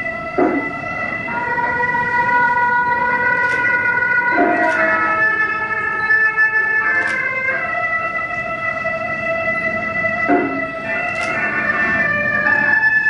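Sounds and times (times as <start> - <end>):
reed wind instruments melody: 0.0 - 13.0.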